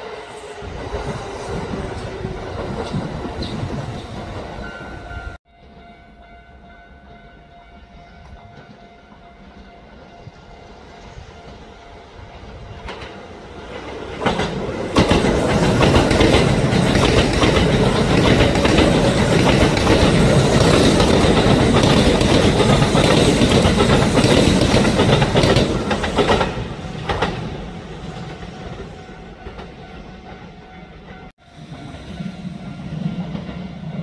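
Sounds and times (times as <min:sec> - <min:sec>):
train running on rails: 0:00.0 - 0:34.0.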